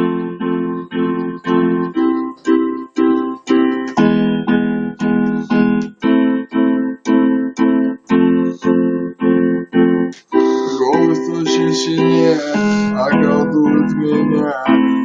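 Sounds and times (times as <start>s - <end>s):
pitched chords struck rhythmically: 0.0s - 15.0s.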